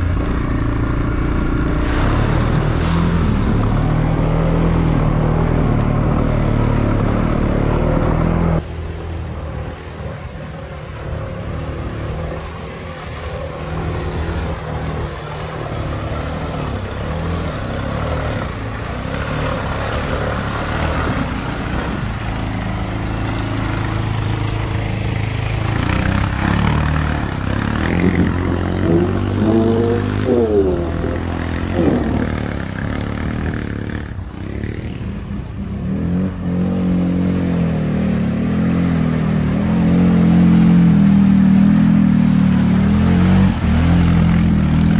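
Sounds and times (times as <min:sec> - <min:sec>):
atv engines revving: 0:00.0 - 0:44.9
quads churning through mud: 0:00.0 - 0:44.9.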